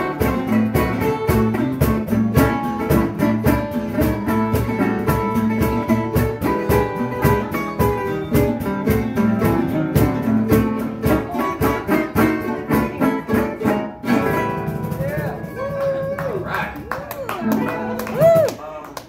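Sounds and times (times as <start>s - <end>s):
plucked string instruments: 0.0s - 18.5s
resonator guitar: 0.0s - 18.5s
cajon beat: 0.0s - 19.0s.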